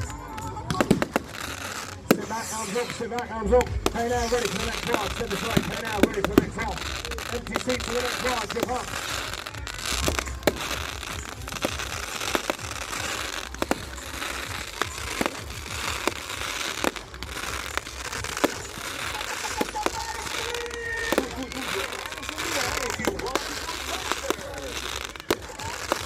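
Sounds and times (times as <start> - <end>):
background din: 0.0 - 26.0
fireworks popping and cracking: 0.0 - 26.0.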